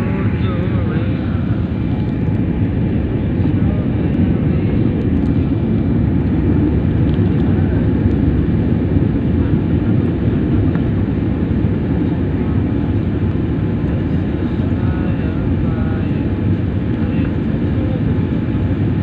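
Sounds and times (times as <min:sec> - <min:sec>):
airliner engines roaring in cabin: 0:00.0 - 0:19.0.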